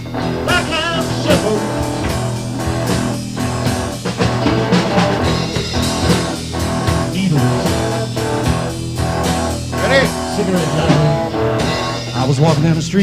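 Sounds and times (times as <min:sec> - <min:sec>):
blues-rock guitar and drums: 0:00.0 - 0:13.0.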